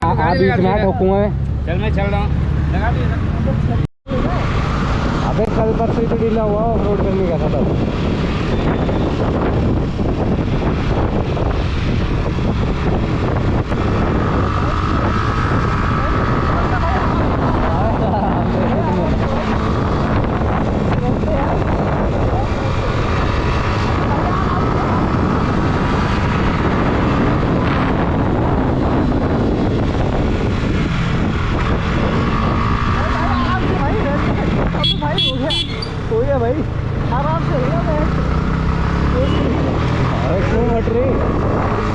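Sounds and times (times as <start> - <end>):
wind rush on microphone: 0.0 - 41.9.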